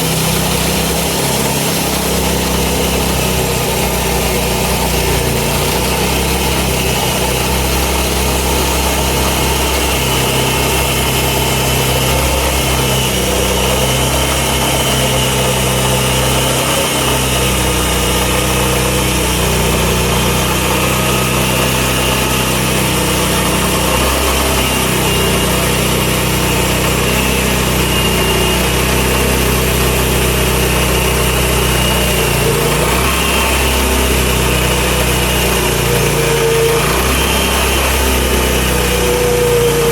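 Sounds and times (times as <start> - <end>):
sawmill petrol engine running: 0.0 - 39.9.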